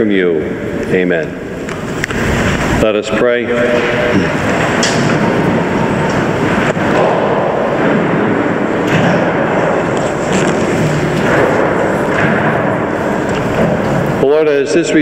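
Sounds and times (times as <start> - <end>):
room noise hiss: 0.0 - 15.0.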